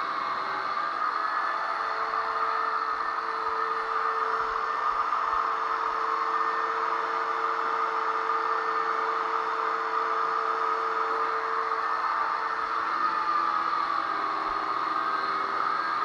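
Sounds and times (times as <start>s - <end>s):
power sander whirring: 0.0s - 16.0s.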